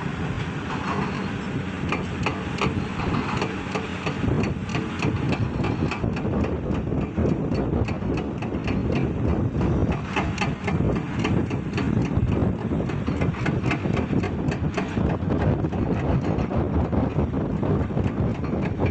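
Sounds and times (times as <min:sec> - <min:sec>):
diesel machinery rumbling: 0:00.0 - 0:18.9
knocks and clatter: 0:00.7 - 0:18.9.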